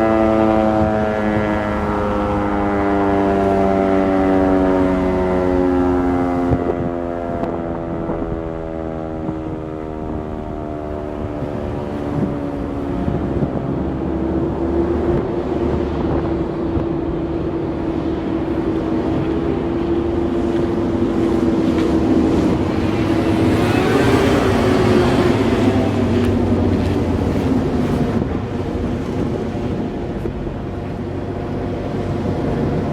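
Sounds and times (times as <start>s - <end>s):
warning siren rise-and-fall wail: 0.0s - 32.9s
wind buffeting microphone: 0.0s - 32.9s.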